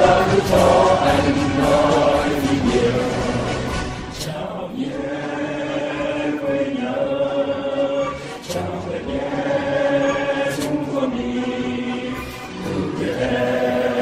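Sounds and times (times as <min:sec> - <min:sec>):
choir singing held notes: 0:00.0 - 0:14.0.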